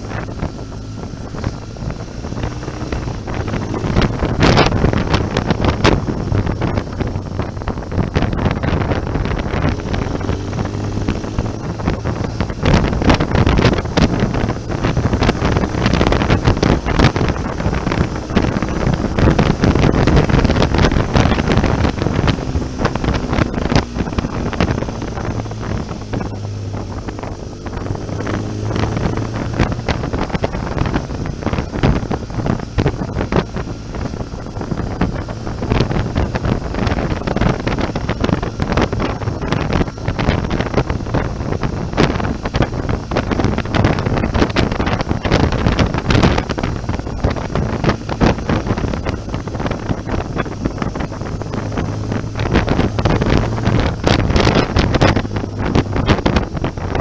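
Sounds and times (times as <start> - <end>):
motorcycle engine running: 0.0 - 57.0
wind buffeting thumps: 0.0 - 57.0
wind rushing over microphone: 0.0 - 57.0.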